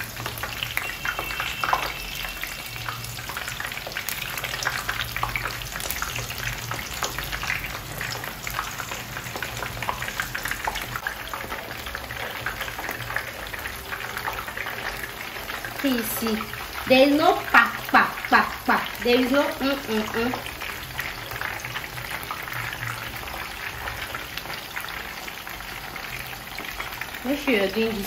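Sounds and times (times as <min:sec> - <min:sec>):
fish frying in oil: 0:00.0 - 0:28.0.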